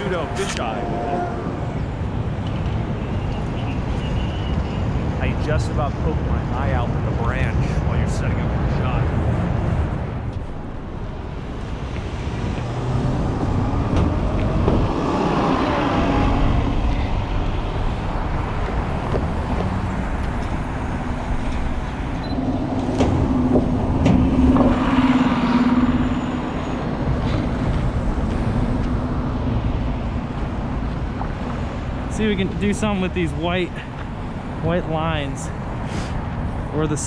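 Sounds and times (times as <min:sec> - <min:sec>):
large vehicle engine hum: 0:00.0 - 0:37.0
traffic roar: 0:00.0 - 0:37.0.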